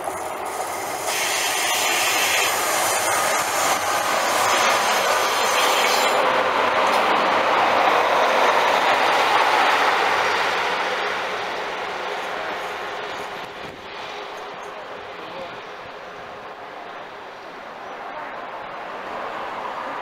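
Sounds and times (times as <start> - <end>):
train wheels rolling on rails: 0.0 - 17.7
diesel train passing: 0.0 - 20.0.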